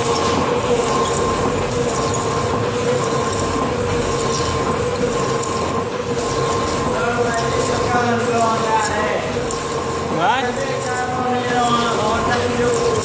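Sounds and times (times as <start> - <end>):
stone crusher running: 0.0 - 13.0.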